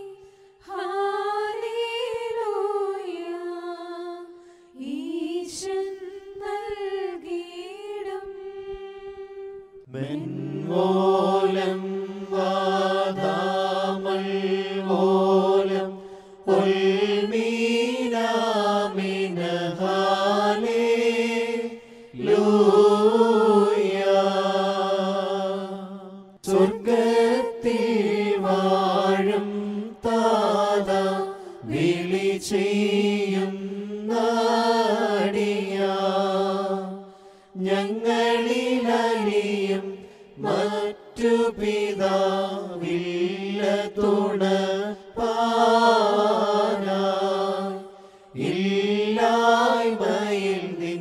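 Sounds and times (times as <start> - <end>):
hymn chanted slowly: 5.6 - 51.0.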